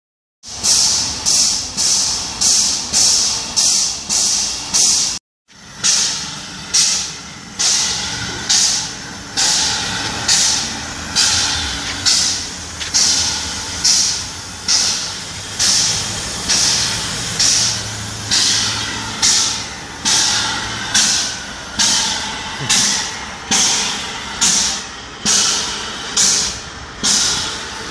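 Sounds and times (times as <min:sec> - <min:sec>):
steam locomotive hissing puffs: 0:00.4 - 0:27.9.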